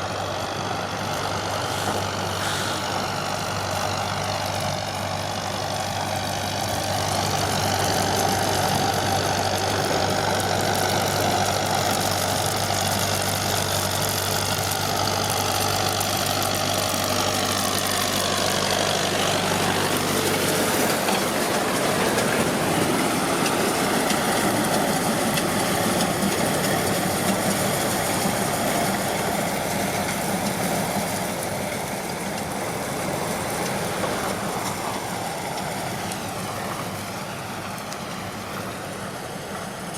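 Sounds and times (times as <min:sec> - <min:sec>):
baler mechanical noise: 0:00.0 - 0:39.9
tractor diesel engine running: 0:00.0 - 0:39.9.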